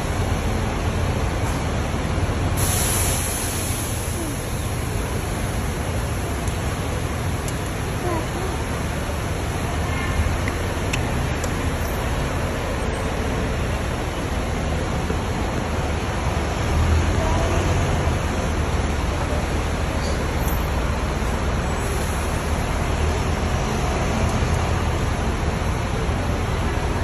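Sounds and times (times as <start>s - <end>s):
buses rumbling and hissing: 0.0s - 27.0s.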